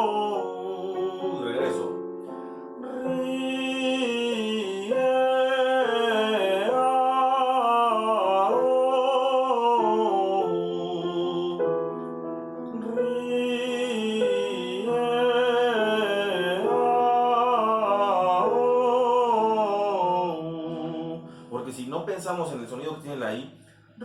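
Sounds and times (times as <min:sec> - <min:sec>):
man singing vocal exercise: 0:00.0 - 0:02.0, 0:02.8 - 0:11.6, 0:12.7 - 0:22.0
piano accompaniment: 0:00.0 - 0:24.0.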